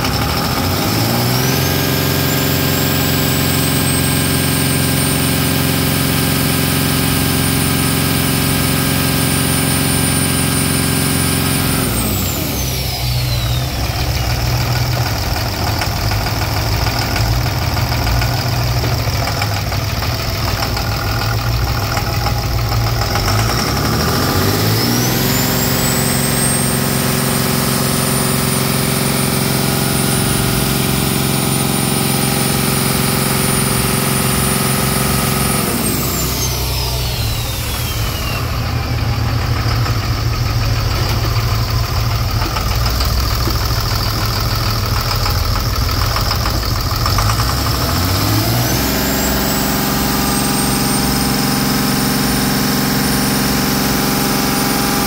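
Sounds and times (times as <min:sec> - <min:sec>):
diesel engine revving with whine: 0:00.0 - 0:55.0.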